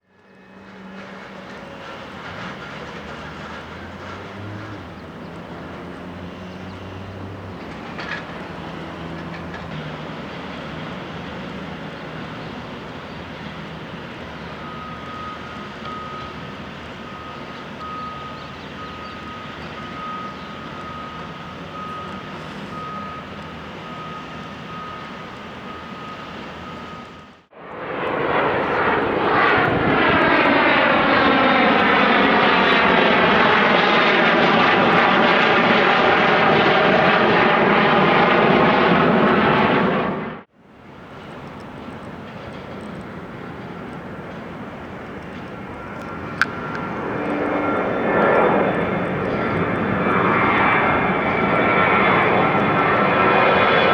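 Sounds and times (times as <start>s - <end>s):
jet aircraft passing close: 0.0s - 53.9s
low engine hum: 0.1s - 53.9s.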